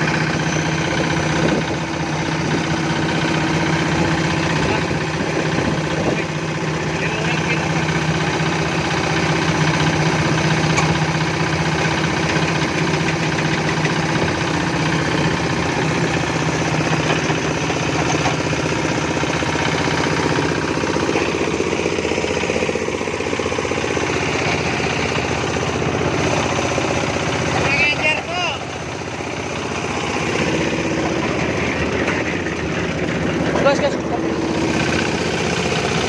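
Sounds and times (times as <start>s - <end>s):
construction machine engine running: 0.0s - 36.0s.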